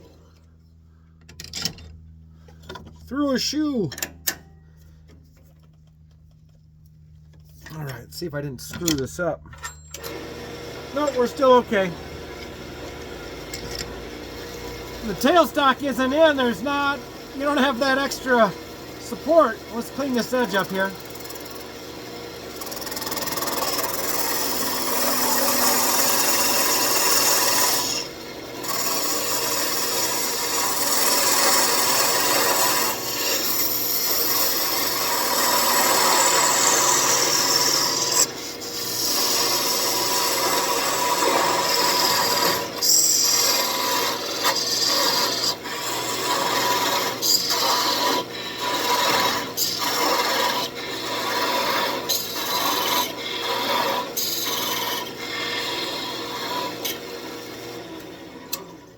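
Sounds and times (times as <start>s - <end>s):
lathe tool scraping wood: 10.1s - 58.7s.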